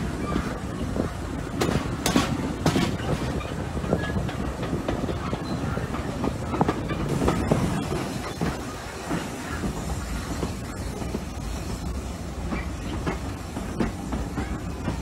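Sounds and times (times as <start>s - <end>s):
train wheels rumbling: 0.0s - 15.0s
wheels clacking over rail joints: 0.0s - 15.0s.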